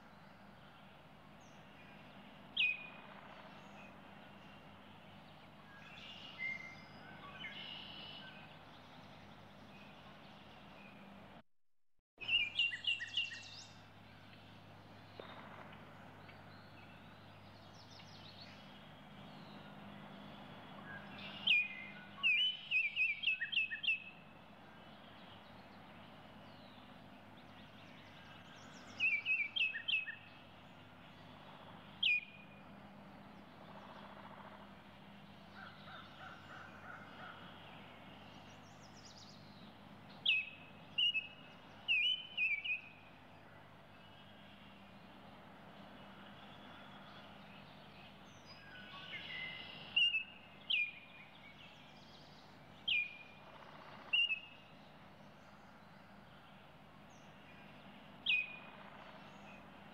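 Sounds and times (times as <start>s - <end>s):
bird chirping: 0.0s - 11.1s, 12.2s - 59.9s.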